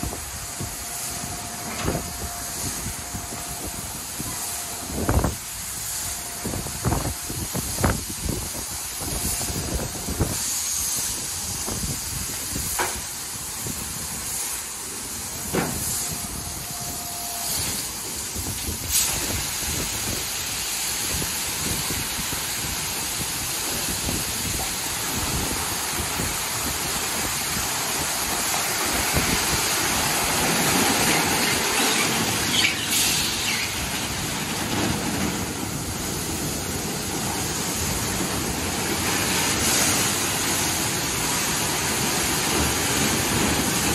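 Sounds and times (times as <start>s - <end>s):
water jets spraying: 0.0s - 43.9s.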